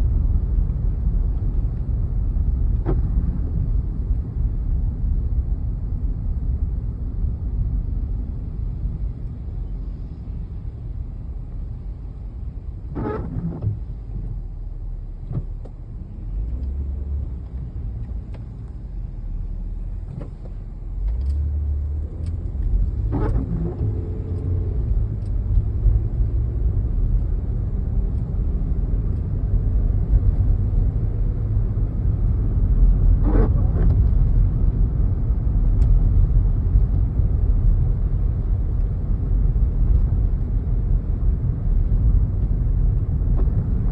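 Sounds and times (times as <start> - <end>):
moving car rumble: 0.0 - 43.9.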